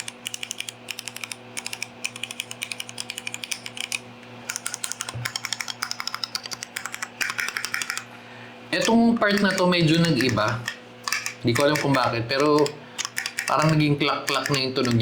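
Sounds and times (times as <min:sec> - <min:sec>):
mechanical keyboard typing: 0:00.0 - 0:08.1, 0:08.8 - 0:15.0.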